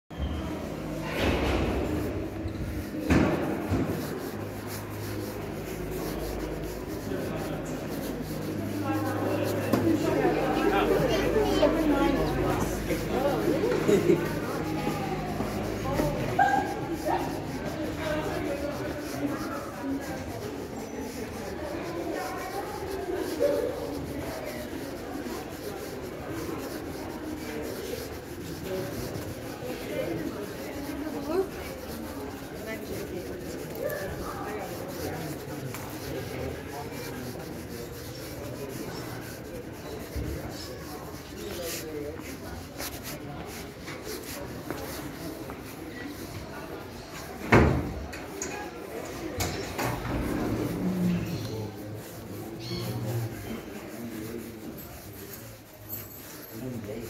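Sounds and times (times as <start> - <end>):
faint voices: 0.2 - 57.0.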